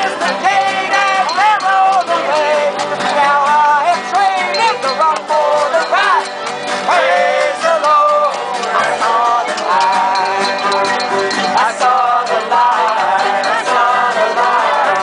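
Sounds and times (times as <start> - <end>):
live band playing lively song: 0.0 - 15.0.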